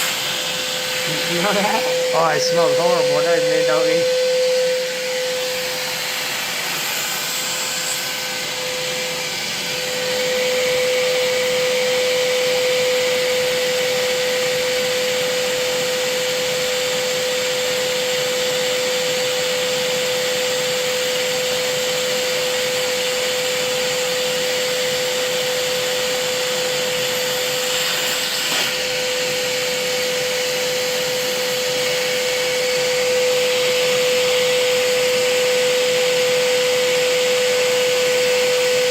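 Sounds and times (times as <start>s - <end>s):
vacuum cleaner whining: 0.0s - 38.9s.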